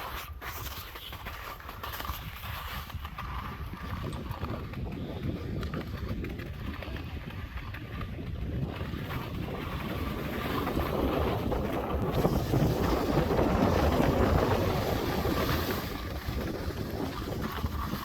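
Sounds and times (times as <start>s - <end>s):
wind gusting across microphone: 2.2s - 18.0s.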